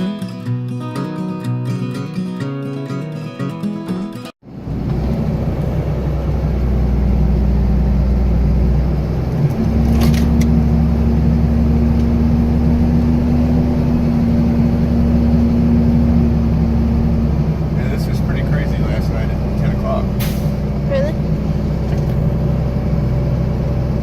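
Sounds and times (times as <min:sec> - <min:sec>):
truck engine running: 0:04.4 - 0:24.0.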